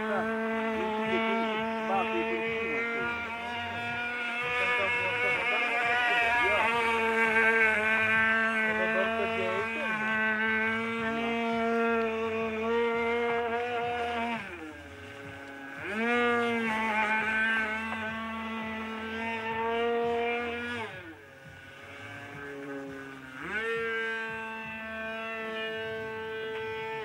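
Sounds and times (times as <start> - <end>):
model plane engine whining: 0.0 - 27.0.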